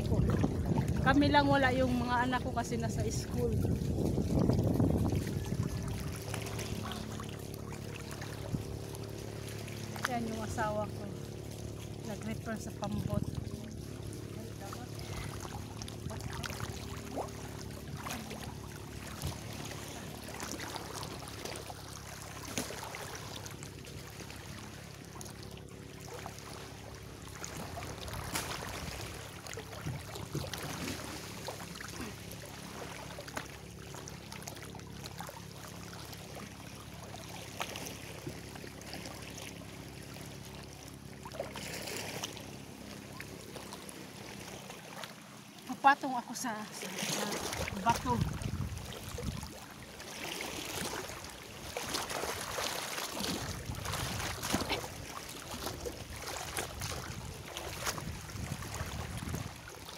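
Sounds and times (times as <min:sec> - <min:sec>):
steady low hum: 0:00.0 - 0:50.0
seawater sloshing and splashing: 0:00.0 - 0:59.9.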